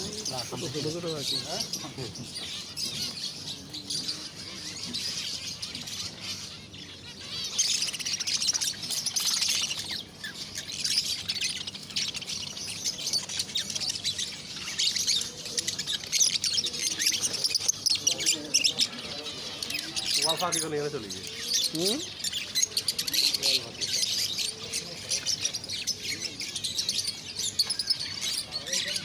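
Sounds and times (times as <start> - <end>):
caged birds chirping: 0.0 - 29.0.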